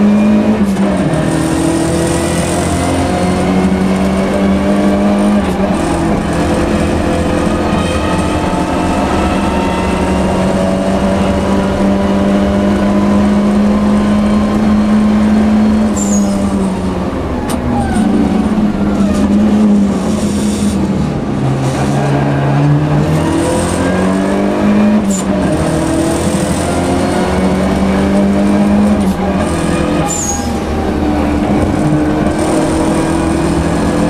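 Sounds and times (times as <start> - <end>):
car engine from inside cabin: 0.0 - 34.0.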